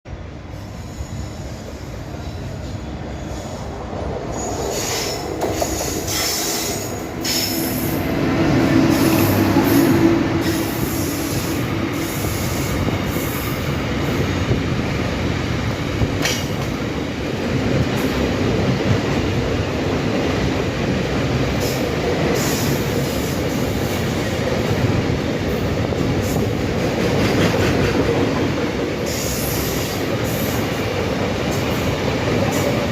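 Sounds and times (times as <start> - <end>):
goods train rolling past: 0.1 - 32.9.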